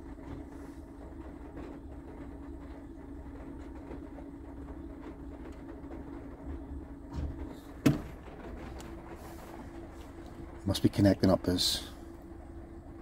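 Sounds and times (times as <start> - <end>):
diesel lorry engine idling: 0.0 - 13.0.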